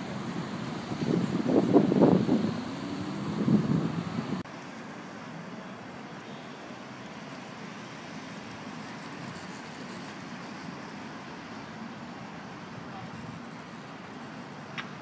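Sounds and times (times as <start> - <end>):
city road traffic hum: 0.0 - 15.0.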